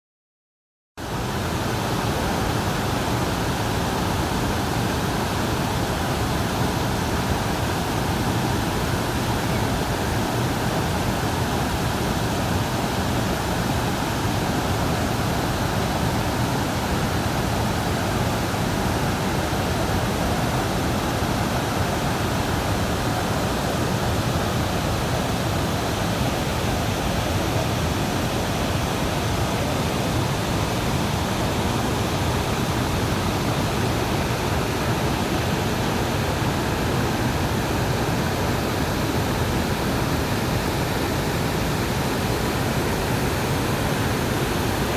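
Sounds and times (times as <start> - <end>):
waterfall rushing: 1.0 - 44.9.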